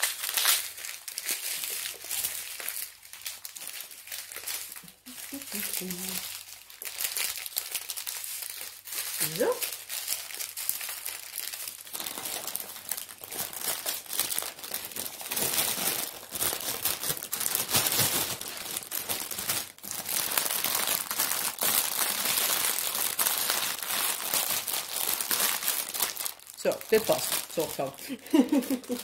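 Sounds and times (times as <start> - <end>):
plastic bags crinkling: 0.0 - 29.0.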